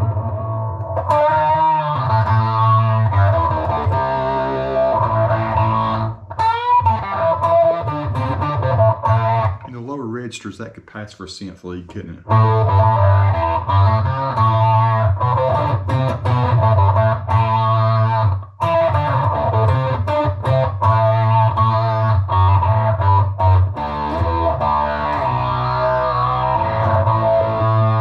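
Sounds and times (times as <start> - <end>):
synth-like electric guitar notes: 0.0 - 9.7, 12.3 - 28.0.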